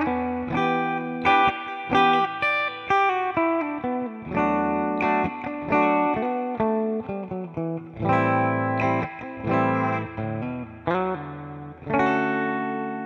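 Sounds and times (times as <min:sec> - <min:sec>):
clean electric guitar: 0:00.0 - 0:13.0.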